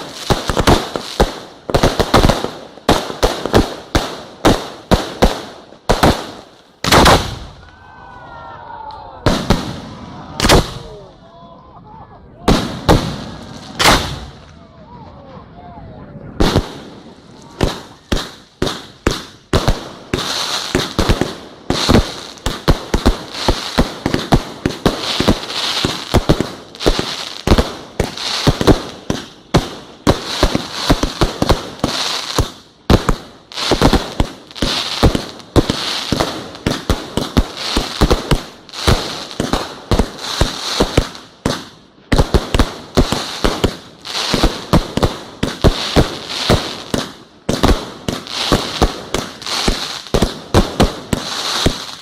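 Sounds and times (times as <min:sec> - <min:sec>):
fireworks bangs: 0:00.0 - 0:07.8, 0:09.2 - 0:11.1, 0:12.4 - 0:14.6, 0:16.1 - 0:52.0.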